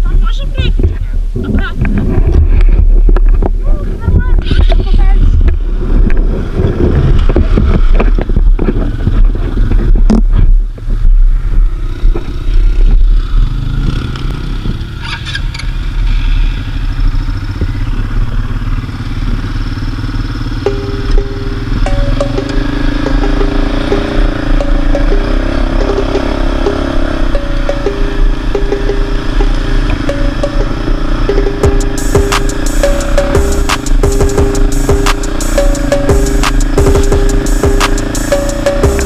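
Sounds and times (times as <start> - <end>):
quad bike engine running: 1.4 - 39.0.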